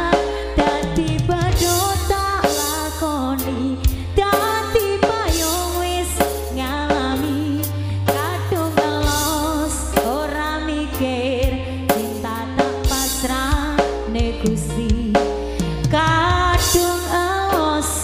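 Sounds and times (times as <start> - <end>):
drum kit beat: 0.0 - 10.5, 11.4 - 18.0
sustained bass line: 0.0 - 18.0.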